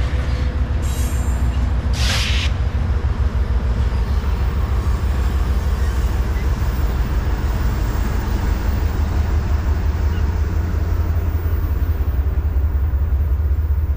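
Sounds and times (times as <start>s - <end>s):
freight train rumbling past: 0.0s - 13.9s.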